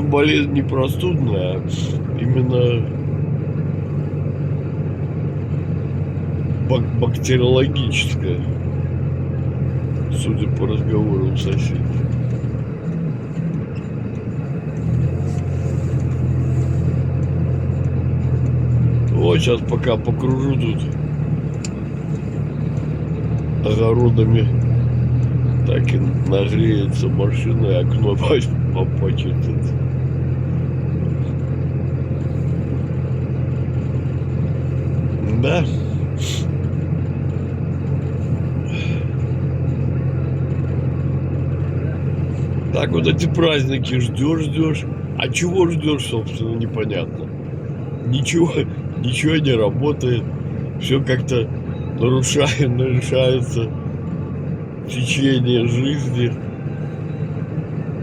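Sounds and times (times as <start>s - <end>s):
diesel car engine droning: 0.0s - 58.0s
road noise: 0.0s - 58.0s.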